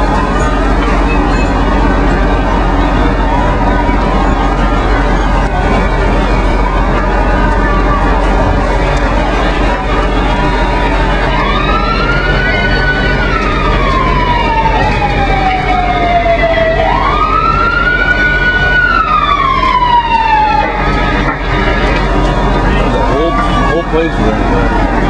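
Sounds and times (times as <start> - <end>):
emergency siren wailing: 0.0 - 25.0
engine rumble: 0.0 - 25.0
fireground noise: 0.0 - 25.0.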